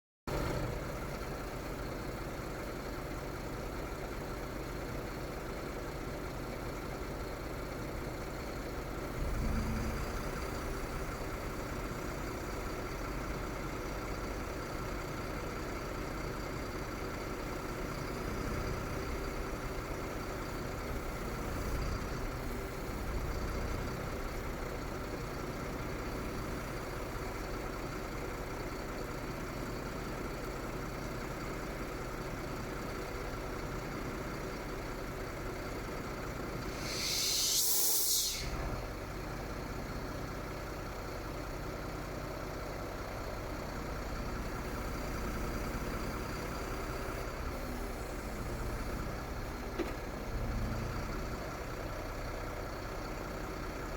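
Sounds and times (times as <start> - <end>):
diesel truck engine idling: 0.3 - 53.9
low engine rumble: 0.3 - 53.9.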